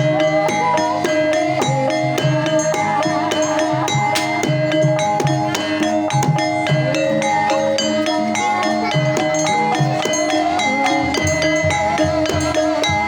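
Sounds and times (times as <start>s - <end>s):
hand drum strokes: 0.0s - 13.0s
ringing metallophone notes: 0.0s - 13.0s.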